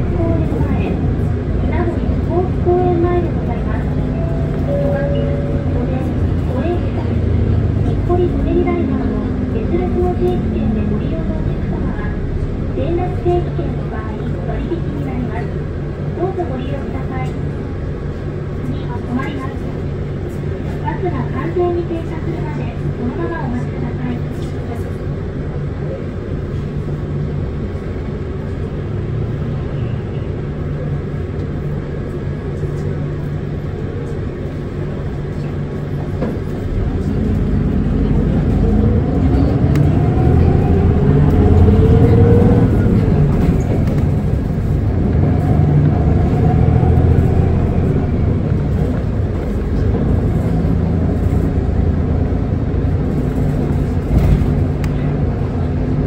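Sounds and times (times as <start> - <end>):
bus drivetrain humming: 0.0 - 56.0.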